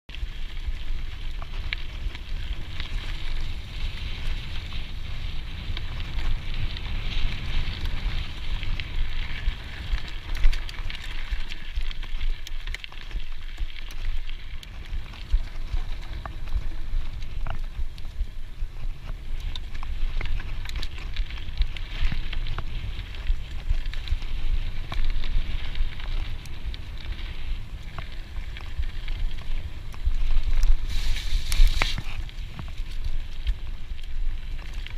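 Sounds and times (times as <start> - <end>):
bike clicks and rattles: 0.1 - 34.9
bike tyres on dirt: 0.1 - 34.9
wind rumble: 0.1 - 34.9.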